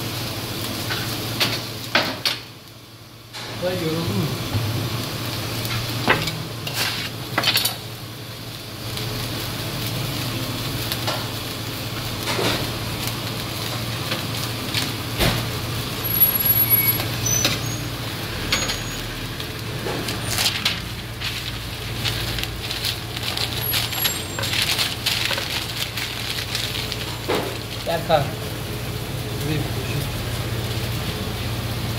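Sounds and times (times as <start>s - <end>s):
grill sizzling and humming: 0.0s - 31.9s.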